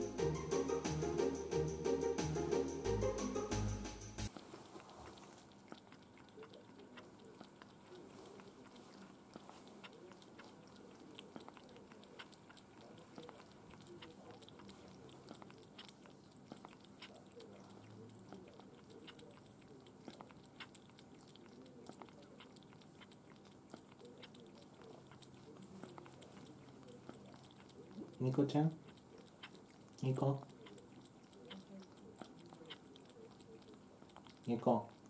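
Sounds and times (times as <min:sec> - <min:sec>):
kitten licking and chewing: 0:00.0 - 0:35.0.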